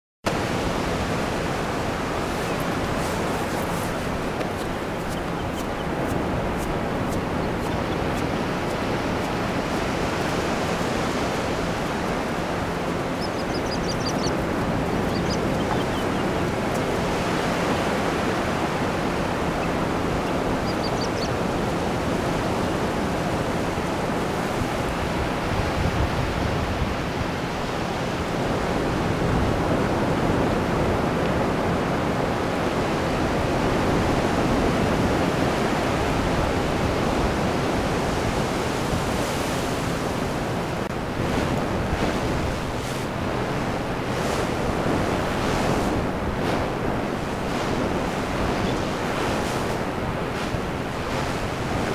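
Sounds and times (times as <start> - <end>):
ocean surf washing on sand: 0.3 - 51.9.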